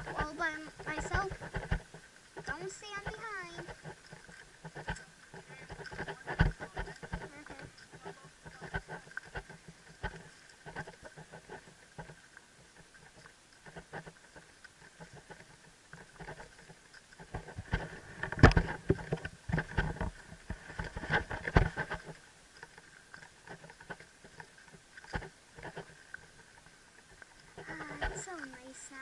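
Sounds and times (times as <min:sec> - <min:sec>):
camera rubbing and knocking: 0:00.0 - 0:26.7, 0:27.4 - 0:29.0.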